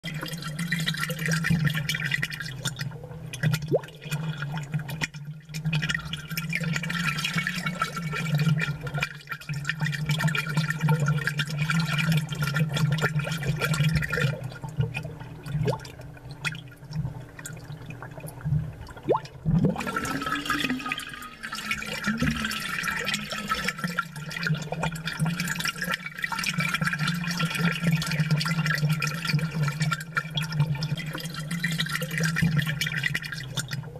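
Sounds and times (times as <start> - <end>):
aquarium water bubbling: 0.0 - 33.9
low pump hum: 0.0 - 33.9.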